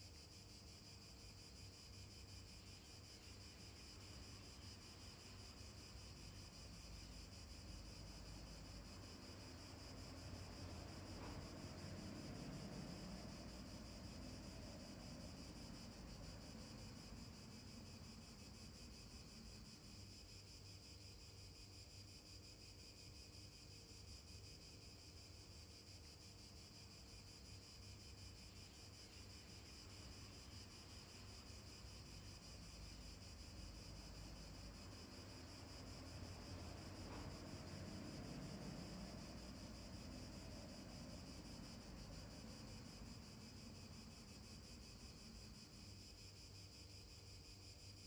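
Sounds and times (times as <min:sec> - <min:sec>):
faint steady hiss: 0:00.0 - 0:48.0.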